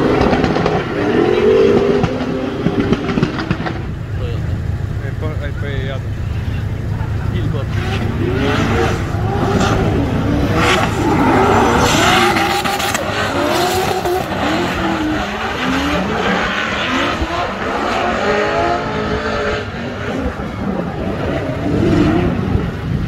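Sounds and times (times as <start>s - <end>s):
car engine revving hard: 0.0s - 4.5s, 5.2s - 23.0s.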